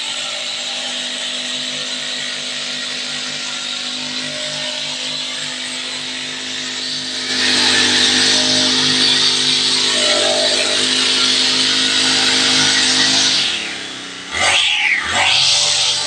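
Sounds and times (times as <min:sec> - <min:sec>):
brush cutter cutting grass: 0:00.0 - 0:16.0.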